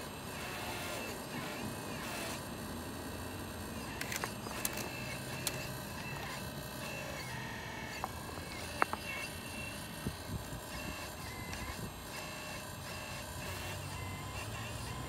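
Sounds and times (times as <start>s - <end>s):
high motor whine: 0.0s - 15.0s
sharp mechanical clicks: 0.0s - 15.0s.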